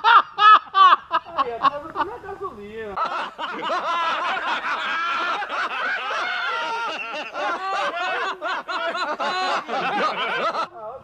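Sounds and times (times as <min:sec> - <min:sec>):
man laughing hard: 0:00.0 - 0:01.5, 0:03.0 - 0:10.6.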